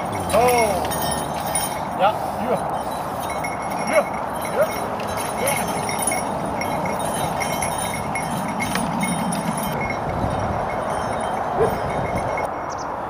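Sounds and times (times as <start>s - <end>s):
harness and chains jingling: 0.0s - 13.0s.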